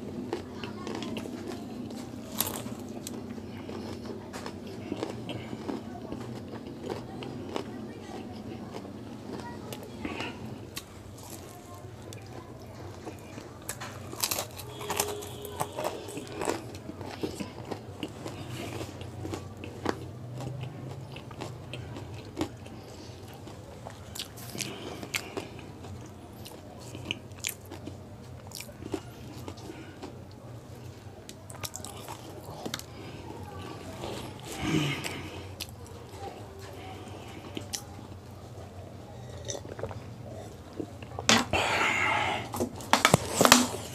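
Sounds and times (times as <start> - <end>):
person chewing crunchy pastry: 0.0 - 43.9.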